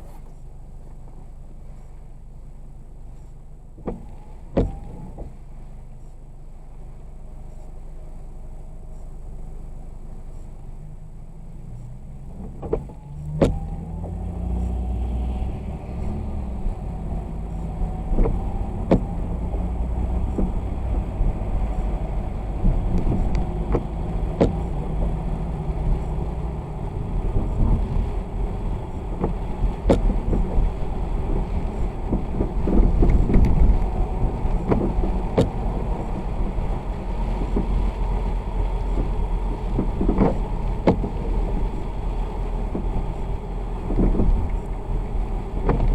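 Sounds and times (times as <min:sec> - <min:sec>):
vehicle driving on wet road: 0:00.0 - 0:45.9.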